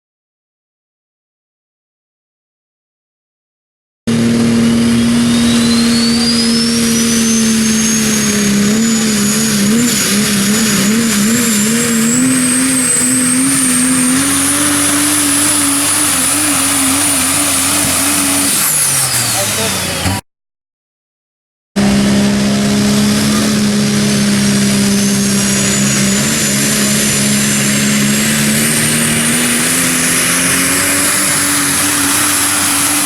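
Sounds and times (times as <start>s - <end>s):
diesel truck engine at full throttle: 4.1s - 20.2s, 21.8s - 33.0s
turbocharger whistle: 4.1s - 20.2s, 21.8s - 33.0s.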